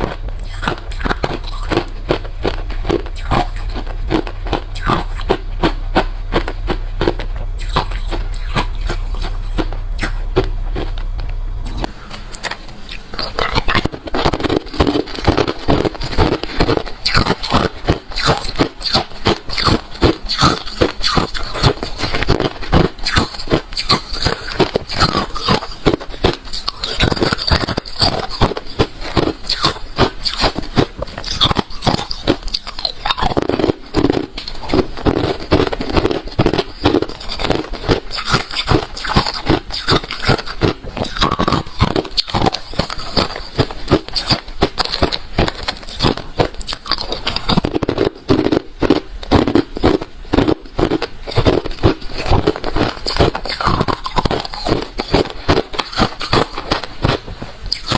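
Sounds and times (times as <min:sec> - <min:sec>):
crushed ice being chewed: 0:00.0 - 0:57.9.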